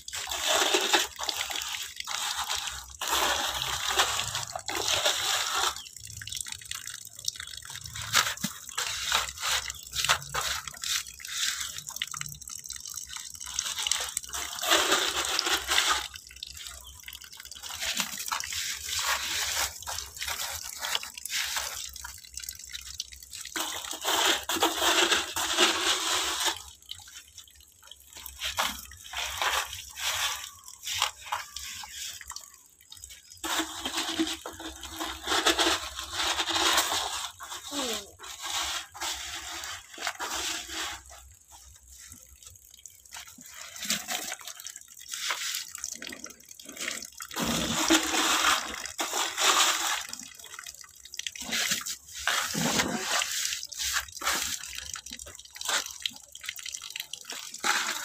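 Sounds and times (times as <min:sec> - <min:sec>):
dipper pouring water: 0:00.0 - 0:58.0
tap running into bucket: 0:00.0 - 0:58.0.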